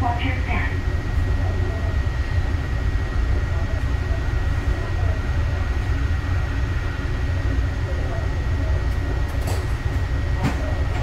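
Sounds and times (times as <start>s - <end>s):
faint high whine: 0.0s - 9.3s.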